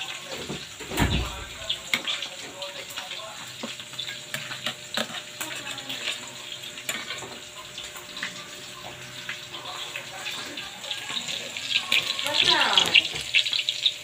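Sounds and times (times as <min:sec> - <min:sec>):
meat frying in a pan: 0:00.0 - 0:14.0.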